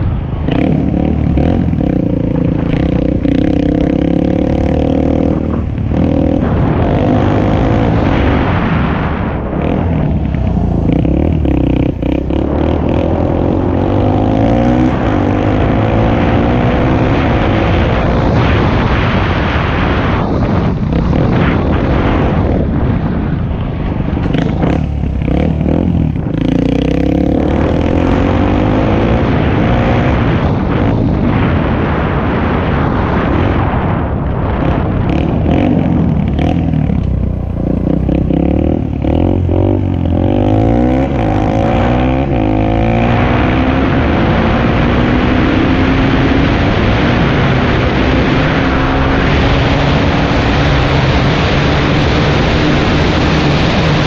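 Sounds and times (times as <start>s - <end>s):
dirt bike engine revving: 0.4s - 22.4s, 24.2s - 32.1s, 34.4s - 54.0s.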